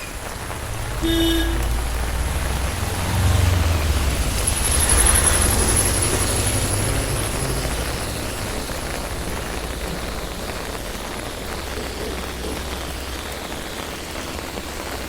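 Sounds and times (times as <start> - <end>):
steady rain: 0.0 - 15.0
vehicle engine rumble passing: 0.1 - 15.0.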